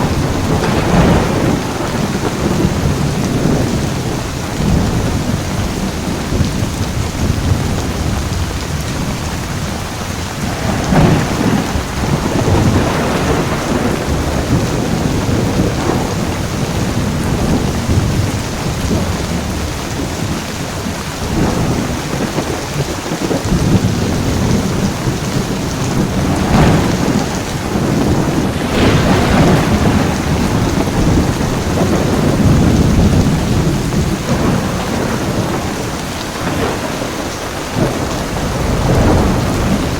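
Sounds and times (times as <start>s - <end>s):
sharp thunder cracks: 0.0s - 9.2s, 10.3s - 20.3s, 21.3s - 39.9s
heavy rain: 0.0s - 39.9s
thunder rumbling: 0.0s - 39.9s.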